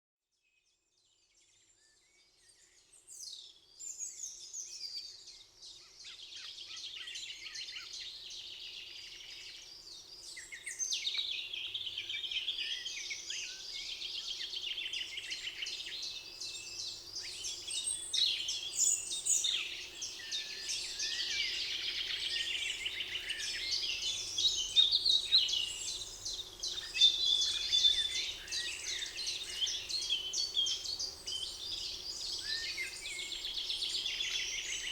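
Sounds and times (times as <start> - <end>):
songbirds chirping and trilling: 1.0 - 34.9.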